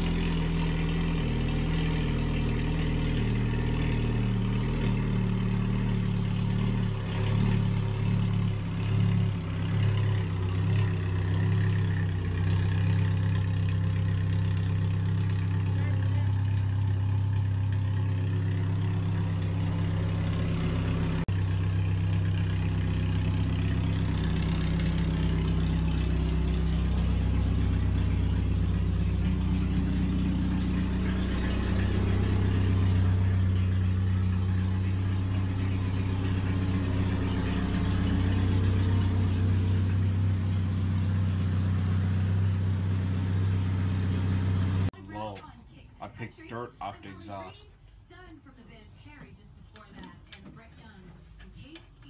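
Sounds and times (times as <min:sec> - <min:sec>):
car engine idling: 0:00.0 - 0:50.7.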